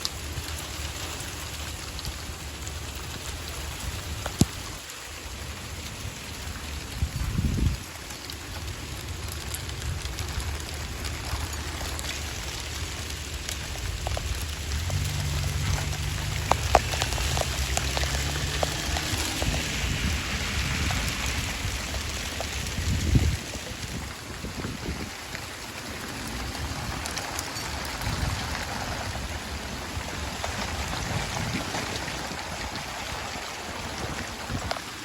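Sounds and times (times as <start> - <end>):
hail striking hard surfaces: 0.0 - 35.0.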